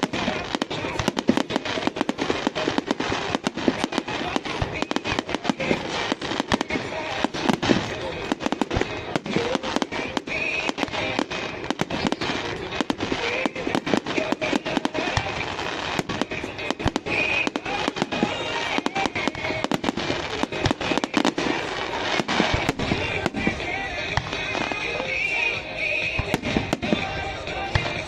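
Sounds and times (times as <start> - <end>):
fireworks bangs and crackling: 0.0 - 28.0
rumbling noise: 0.0 - 28.0.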